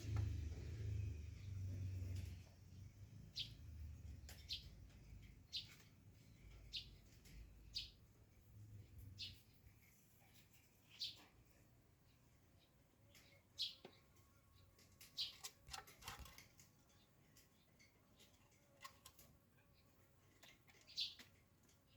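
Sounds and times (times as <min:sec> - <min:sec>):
faint bird chirps: 0:00.0 - 0:15.8, 0:16.9 - 0:21.9.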